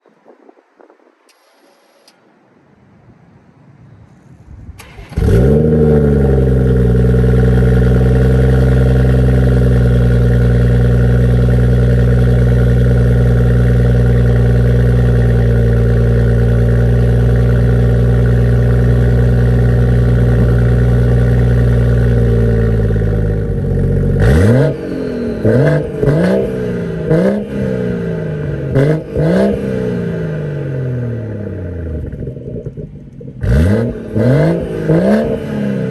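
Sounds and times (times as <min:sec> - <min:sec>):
car engine revving: 0:04.8 - 0:35.9
car engine starting and idling: 0:04.8 - 0:35.9.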